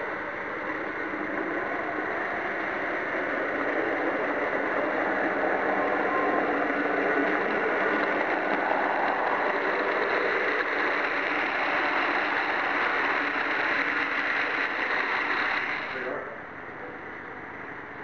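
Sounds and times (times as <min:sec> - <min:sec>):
model train motor whirring: 0:00.0 - 0:16.2.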